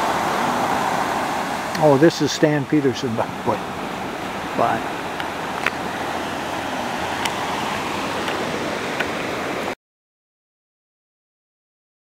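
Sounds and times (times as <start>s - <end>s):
ocean surf on a beach: 0.0s - 9.8s.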